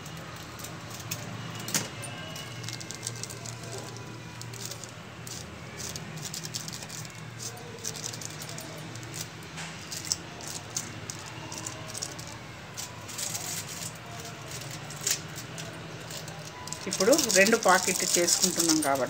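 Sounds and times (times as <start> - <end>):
foil sachet crinkling: 2.2 - 19.0.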